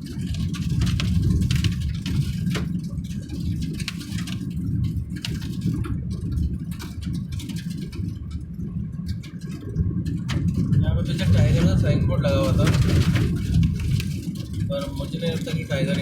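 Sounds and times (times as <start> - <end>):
sharp clicks and knocks: 0.0 - 16.0
vehicle engine and tyre rumble: 0.0 - 16.0.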